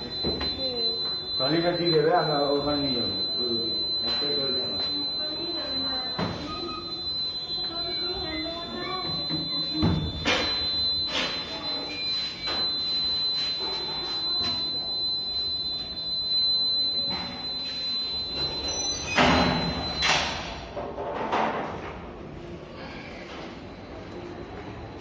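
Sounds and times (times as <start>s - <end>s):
high-pitched electronic beep: 0.0s - 20.5s.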